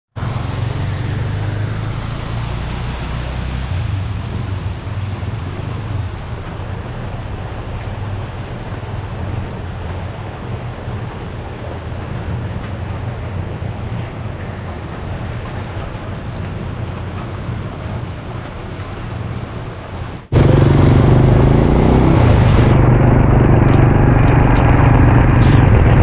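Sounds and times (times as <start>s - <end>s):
heavy rain downpour: 0.2s - 26.0s.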